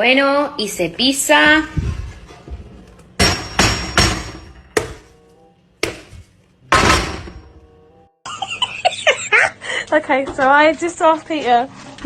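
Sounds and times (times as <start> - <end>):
light background music: 0.0 - 12.0.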